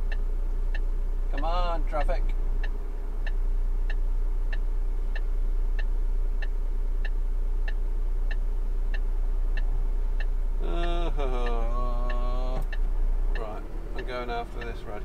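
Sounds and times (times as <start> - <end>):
idling engine drone: 0.0 - 15.0
turn signal ticking: 0.0 - 15.0.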